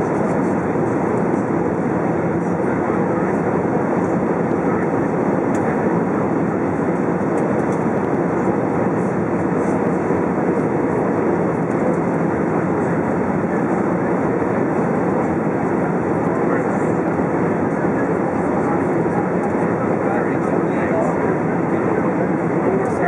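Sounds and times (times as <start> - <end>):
jet engine roar in cabin: 0.0 - 23.0.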